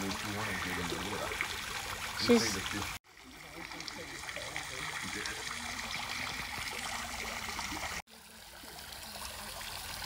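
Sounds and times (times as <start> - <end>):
water trickling into pond: 0.0 - 10.0.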